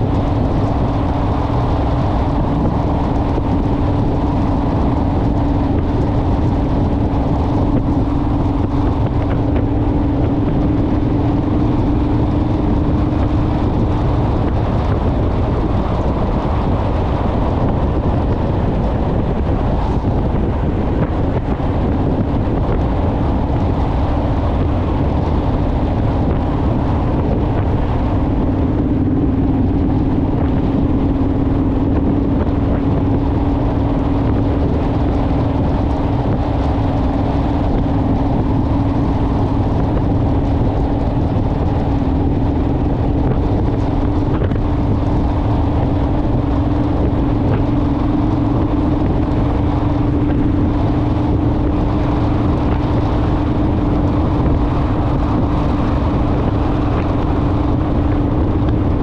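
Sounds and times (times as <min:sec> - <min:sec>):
motorcycle engine cruising: 0:00.0 - 0:59.0
wind rumble on microphone: 0:00.0 - 0:59.0.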